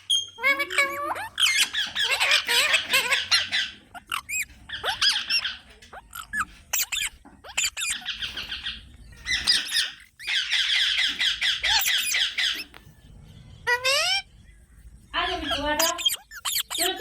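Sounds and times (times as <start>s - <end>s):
parakeets squawking and chattering: 0.0s - 17.0s.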